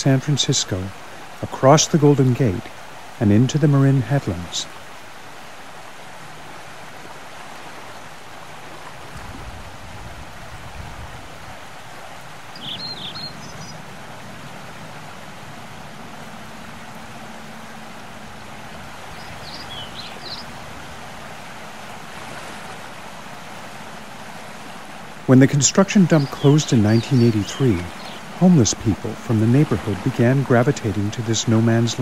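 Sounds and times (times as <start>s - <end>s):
rushing outdoor ambience: 0.0s - 32.0s.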